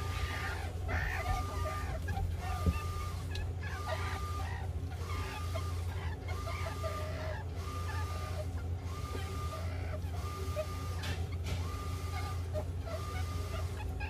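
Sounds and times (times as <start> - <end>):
meerkats chirping and clucking: 0.0 - 14.0
steady low hum: 0.0 - 14.0.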